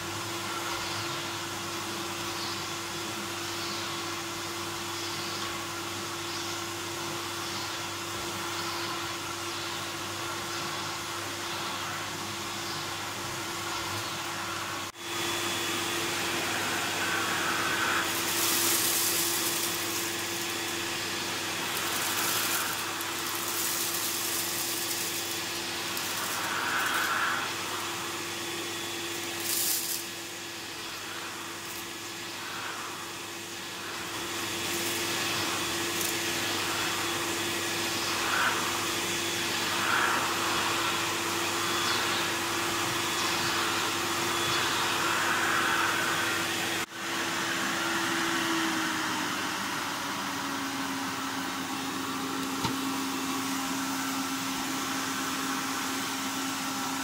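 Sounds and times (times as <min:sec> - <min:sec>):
vacuum cleaner running: 0:00.0 - 0:57.0
vacuum nozzle on carpet: 0:00.0 - 0:57.0.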